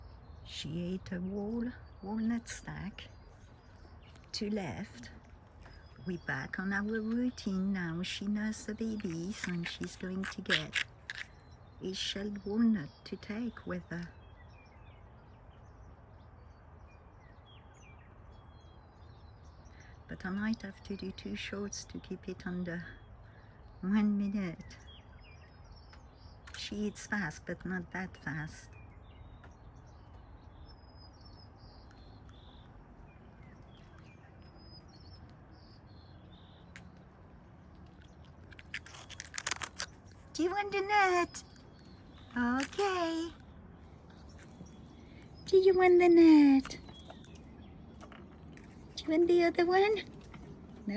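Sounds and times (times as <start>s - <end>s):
distant birds chirping: 0.0s - 50.9s.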